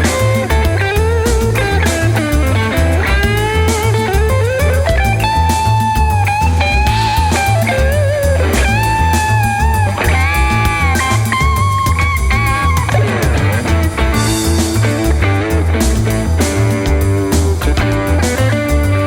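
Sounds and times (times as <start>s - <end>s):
bass and backing track: 0.0s - 19.0s
electric lead guitar: 0.0s - 19.0s.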